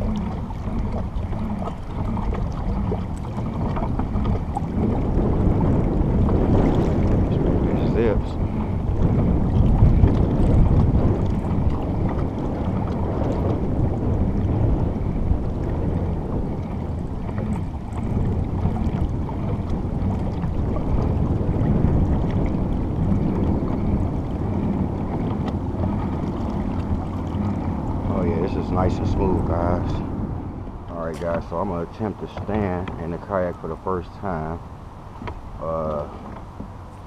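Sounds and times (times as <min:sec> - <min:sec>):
water moving along kayak hull: 0:00.0 - 0:37.0
wind on microphone: 0:00.0 - 0:37.0.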